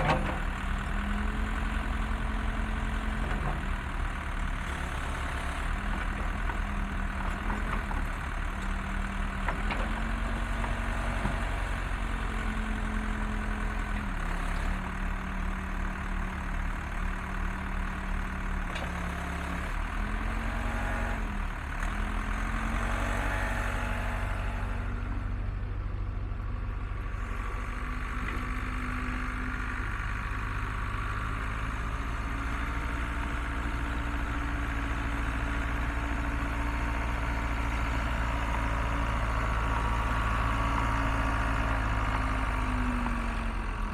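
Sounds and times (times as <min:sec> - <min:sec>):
backhoe engine running: 0:00.0 - 0:43.9.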